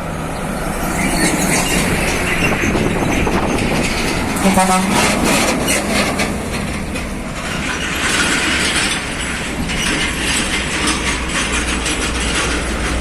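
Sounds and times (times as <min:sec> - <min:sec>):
trailer rattling and clanking: 0:00.0 - 0:13.0
truck engine rumble: 0:00.0 - 0:13.0
tyre and road noise: 0:00.0 - 0:13.0.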